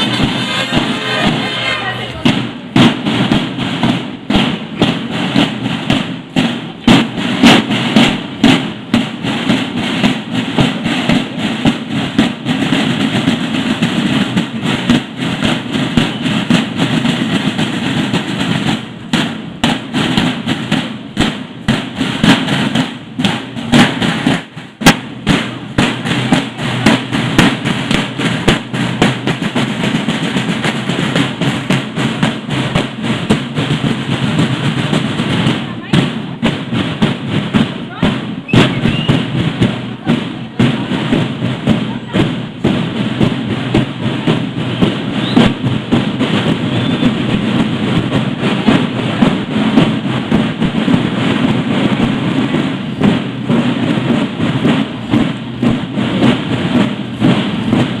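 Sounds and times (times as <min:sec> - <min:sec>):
snare drums marching cadence: 0:00.0 - 0:58.0.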